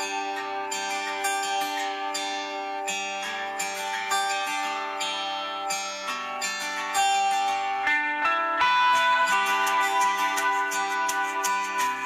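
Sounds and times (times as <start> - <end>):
plucked string instrumental music: 0.0 - 12.0.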